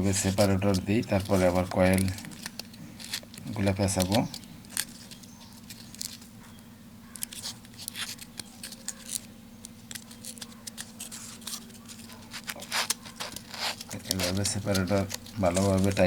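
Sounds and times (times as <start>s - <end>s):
stiff paper scraping and rustling: 0.0s - 6.4s, 7.1s - 16.0s.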